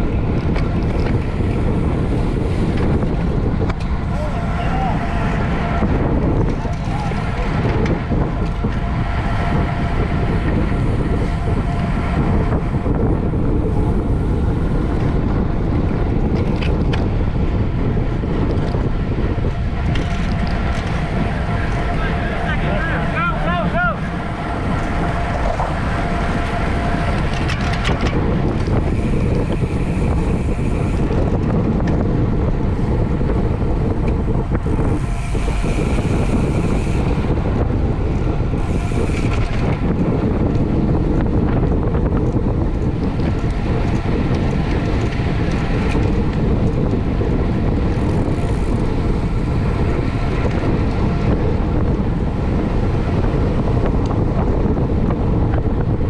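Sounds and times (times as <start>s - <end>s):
wind rushing across microphone: 0.0s - 56.0s.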